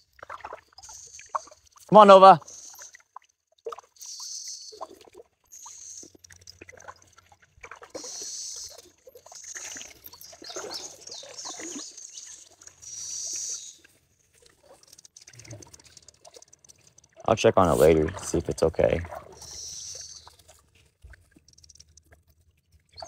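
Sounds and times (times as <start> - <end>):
water splashing from wading: 0.0 - 4.1, 4.7 - 22.3.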